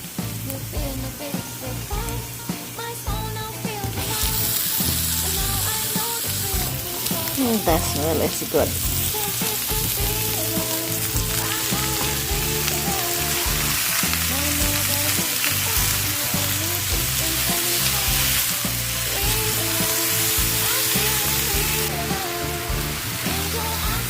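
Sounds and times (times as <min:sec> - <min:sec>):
background music: 0:00.0 - 0:24.0
eggplant sizzling in oil: 0:00.0 - 0:24.0
stirring in pan: 0:04.0 - 0:24.0.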